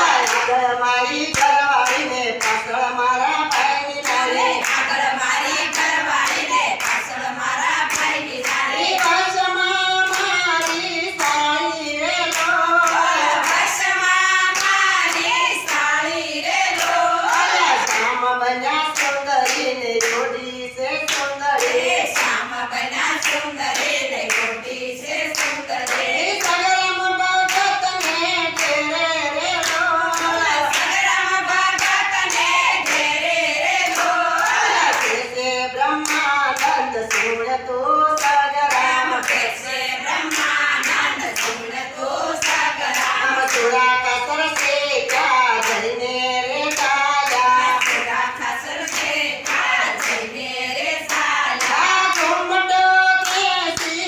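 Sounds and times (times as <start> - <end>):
hand clapping beat: 0.0 - 0.6, 1.2 - 11.5, 12.1 - 16.0, 16.7 - 18.2, 18.8 - 20.4, 21.0 - 24.6, 25.2 - 33.2, 33.8 - 37.5, 38.1 - 41.7, 42.3 - 46.0, 46.6 - 54.0
women's group singing: 0.0 - 54.0.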